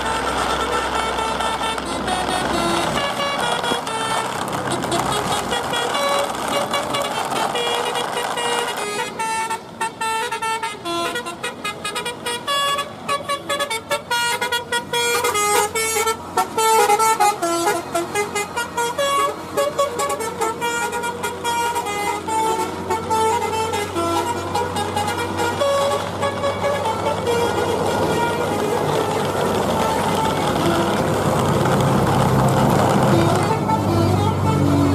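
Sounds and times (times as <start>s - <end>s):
bus horn melody: 0.0s - 34.9s.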